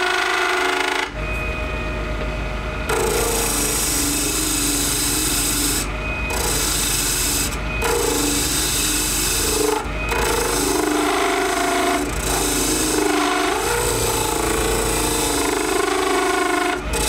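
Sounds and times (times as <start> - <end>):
lathe motor hum: 2.0 - 17.0
chisel scraping on a lathe: 2.9 - 17.0.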